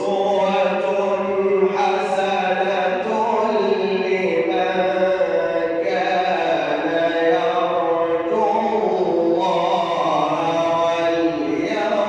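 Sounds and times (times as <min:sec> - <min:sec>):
man reciting melodically with echo: 0:00.0 - 0:12.0.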